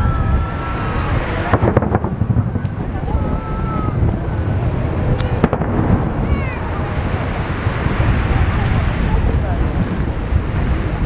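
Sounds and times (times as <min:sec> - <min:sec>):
fireworks shells booming: 0:00.0 - 0:11.0
sharp firework cracks: 0:00.0 - 0:11.0
whistling firework shell: 0:00.0 - 0:11.0.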